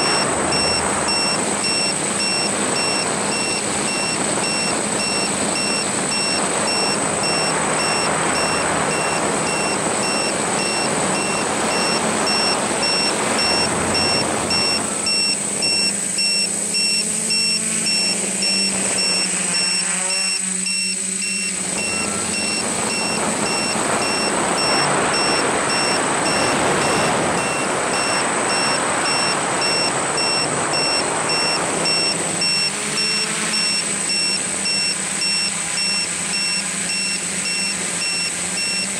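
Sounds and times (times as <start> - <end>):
drone motors and propellers: 0.0 - 38.9
short high beeps: 0.0 - 38.9.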